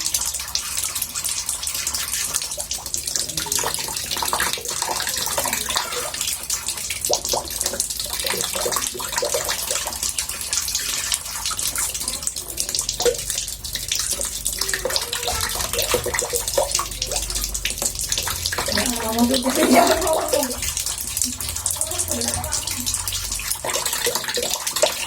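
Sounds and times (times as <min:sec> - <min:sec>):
water splashing in a bathtub: 0:00.0 - 0:25.0.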